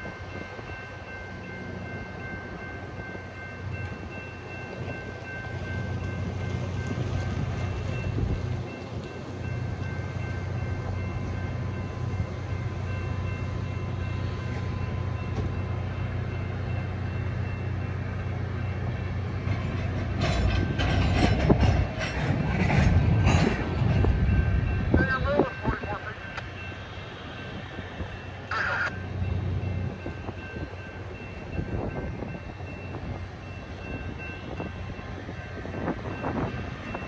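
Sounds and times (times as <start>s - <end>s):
steam train low rumble: 0.0s - 37.0s.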